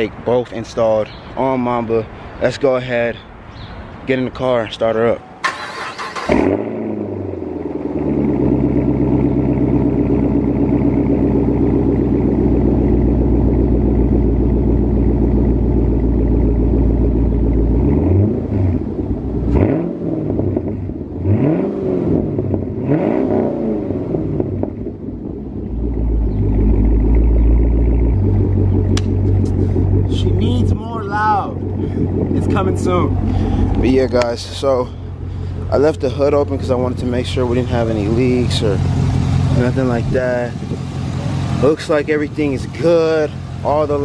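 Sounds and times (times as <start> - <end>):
car engine idling: 4.4 - 19.6, 23.6 - 44.0
engine revving: 5.4 - 44.0.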